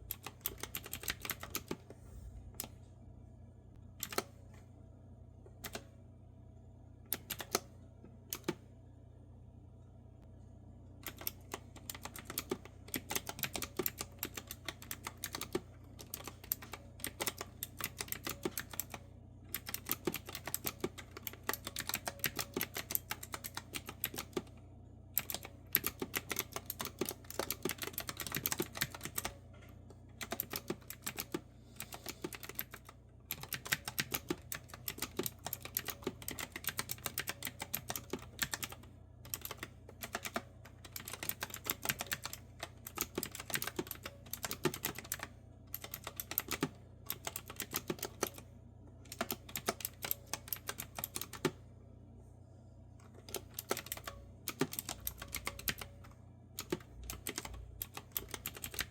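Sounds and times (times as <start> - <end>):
clicky keyboard typing: 0.1 - 1.9, 4.0 - 4.3, 5.6 - 5.9, 7.1 - 7.7, 8.3 - 8.6, 11.0 - 24.5, 25.2 - 29.4, 30.1 - 51.6, 53.0 - 58.9.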